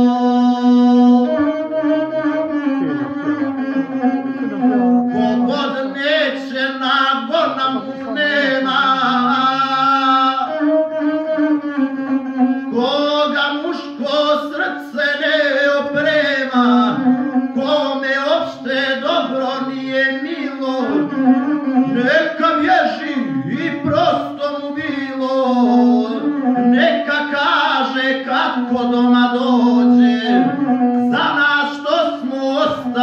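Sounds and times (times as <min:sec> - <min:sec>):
man chanting a narrative song: 0:02.9 - 0:10.6, 0:12.7 - 0:21.2, 0:21.9 - 0:33.0.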